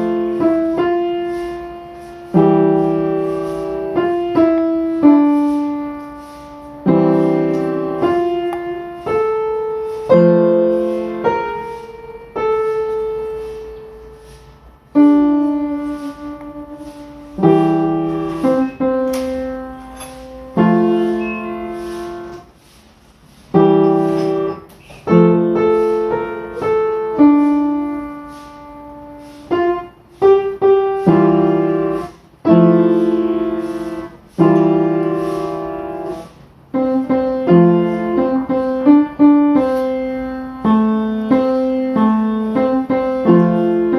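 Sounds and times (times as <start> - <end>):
solo piano music: 0.0 - 22.5, 23.5 - 43.9.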